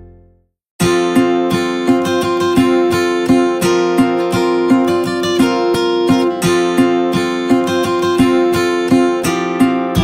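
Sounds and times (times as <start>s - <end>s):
acoustic guitar strumming: 0.8s - 10.0s.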